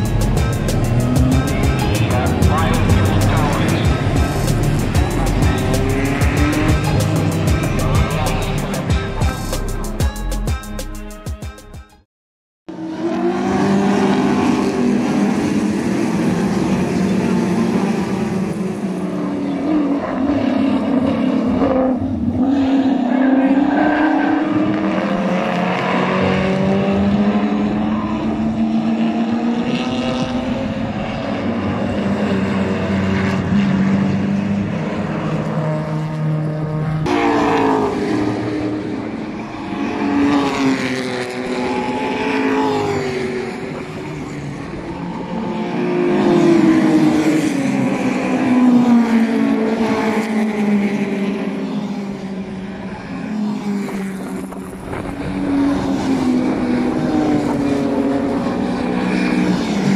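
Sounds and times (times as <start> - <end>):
racing car engines passing: 0.0 - 9.4, 12.7 - 59.9.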